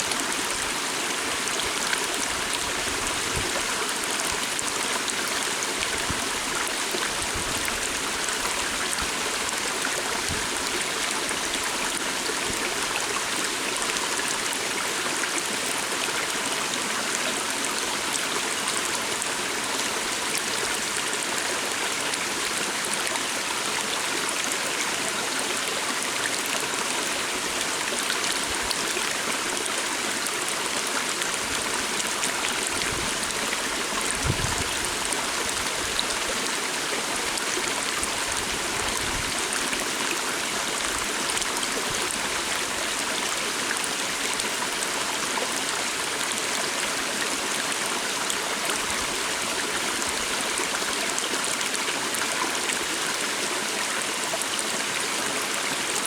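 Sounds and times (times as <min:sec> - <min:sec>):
water stream flowing: 0:00.0 - 0:56.0.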